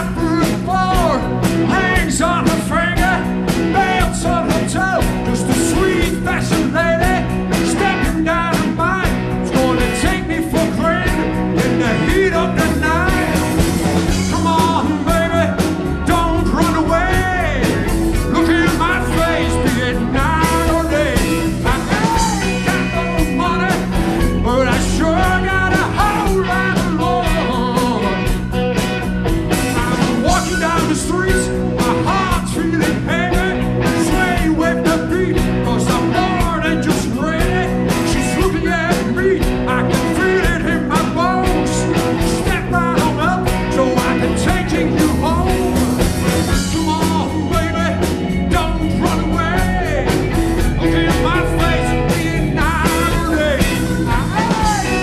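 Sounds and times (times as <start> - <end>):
man singing: 0.0 - 28.4, 29.5 - 55.0
live rock band playing: 0.0 - 55.0.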